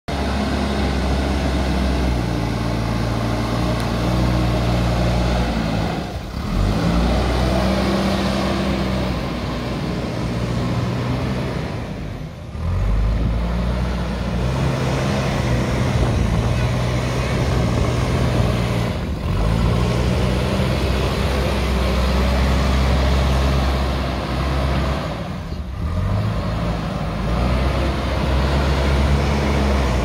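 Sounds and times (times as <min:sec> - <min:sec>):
diesel engine running under load: 0:00.1 - 0:30.0.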